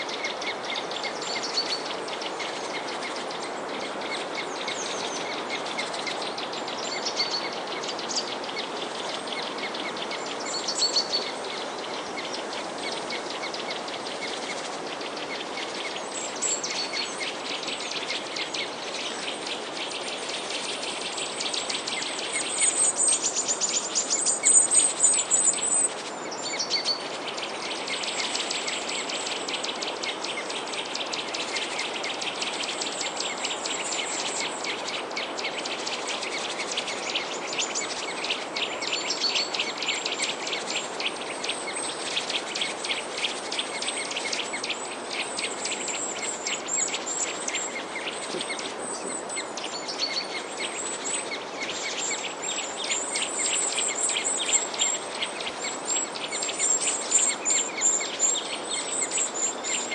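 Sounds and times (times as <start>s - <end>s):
songbirds chirping: 0.0s - 59.9s
steady background hiss: 0.0s - 59.9s.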